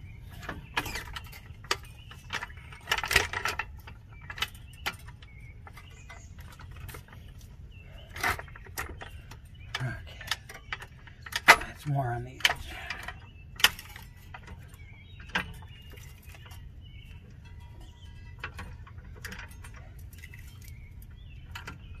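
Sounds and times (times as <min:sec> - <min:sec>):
floor jack metal clicks and clanks: 0:00.0 - 0:22.0.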